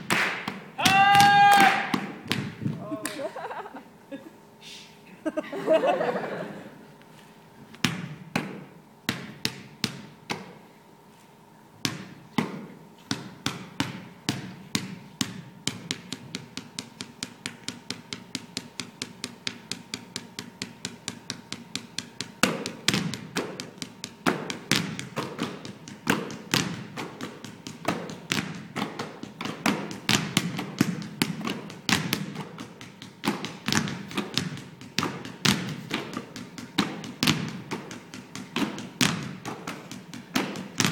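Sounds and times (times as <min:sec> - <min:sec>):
basketballs bouncing on wooden floor: 0:00.0 - 0:02.7, 0:07.8 - 0:10.6, 0:11.8 - 0:40.9.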